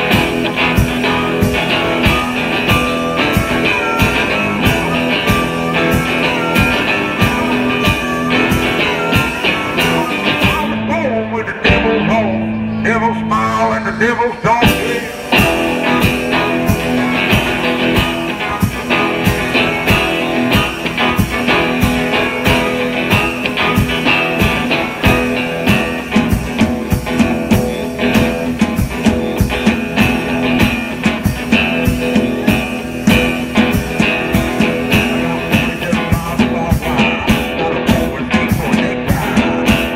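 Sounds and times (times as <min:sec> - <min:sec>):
drum beat: 0:00.0 - 0:10.9, 0:14.6 - 0:39.9
harmonica wailing: 0:00.0 - 0:39.9.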